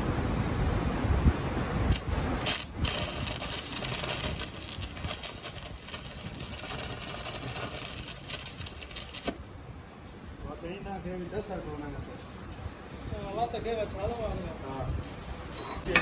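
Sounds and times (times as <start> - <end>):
harsh crackling metalworking hiss: 1.7 - 16.0.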